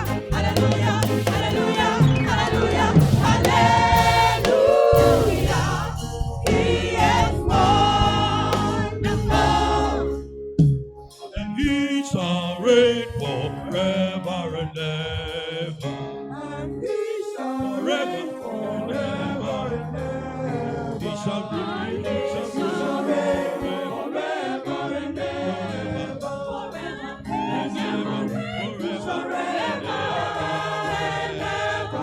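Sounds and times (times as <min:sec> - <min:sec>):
choir singing a gospel hymn: 0:00.0 - 0:10.5, 0:11.3 - 0:32.0.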